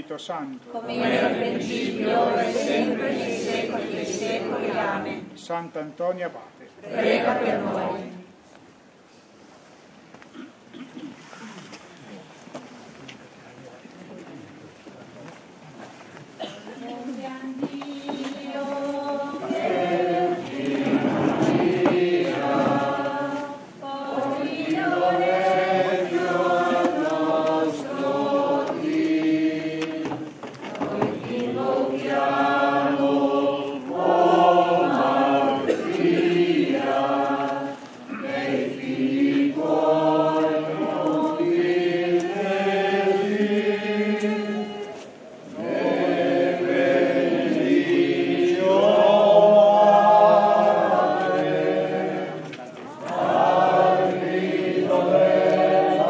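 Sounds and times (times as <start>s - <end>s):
congregation singing a hymn: 0.7s - 5.5s, 6.8s - 8.4s, 16.4s - 56.0s.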